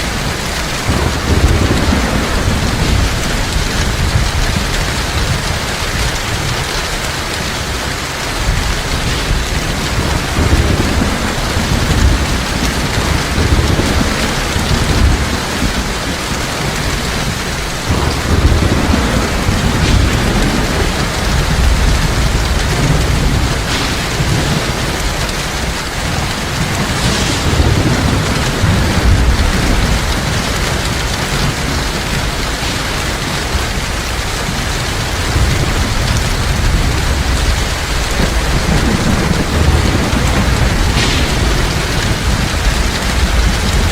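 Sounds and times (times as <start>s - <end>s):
heavy rain falling: 0.0s - 43.9s
thunder rumbling: 0.0s - 43.9s.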